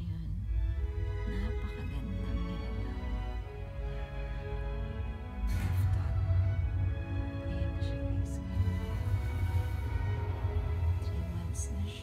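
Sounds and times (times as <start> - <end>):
slow music with deep bass: 0.0 - 12.0.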